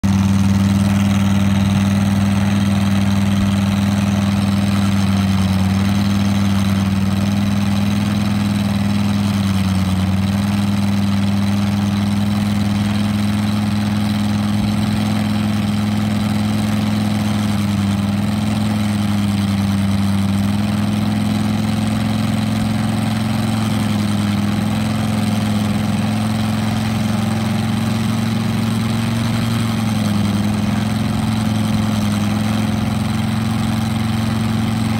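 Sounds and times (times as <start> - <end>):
model aircraft engine running: 0.0 - 34.9.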